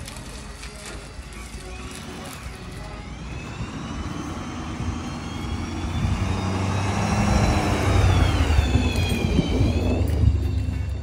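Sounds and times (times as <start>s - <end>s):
motor engine rumble with whine: 0.0s - 11.0s.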